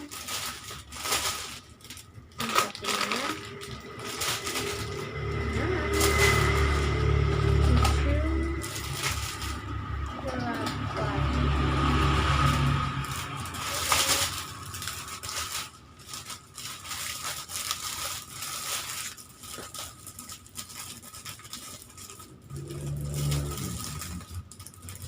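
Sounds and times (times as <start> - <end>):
plastic wrappers crinkling: 0.0 - 25.0.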